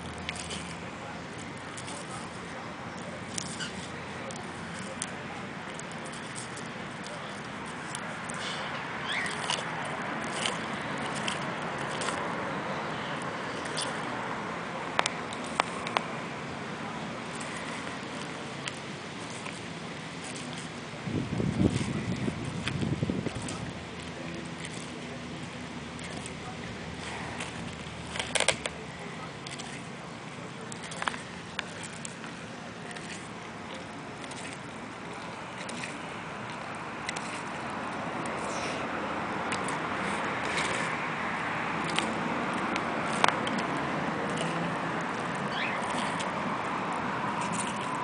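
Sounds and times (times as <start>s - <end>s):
tortoise chewing corn: 0.0s - 48.0s.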